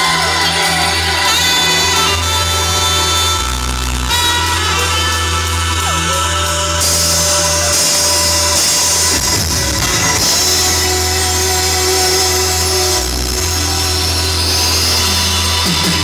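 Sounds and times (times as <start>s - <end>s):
bass line: 0.0s - 16.0s
live reggae band playing: 0.0s - 16.0s.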